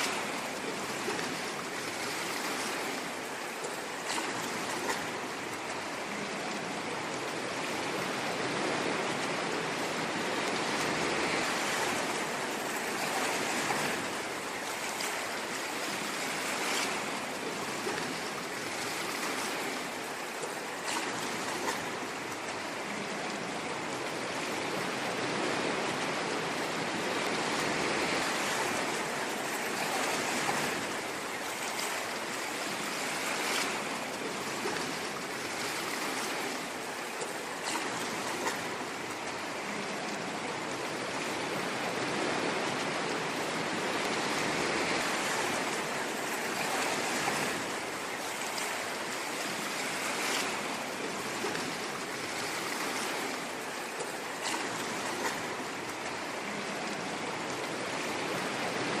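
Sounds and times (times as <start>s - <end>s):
ocean waves washing in: 0.0s - 59.0s
water splashes: 0.0s - 59.0s.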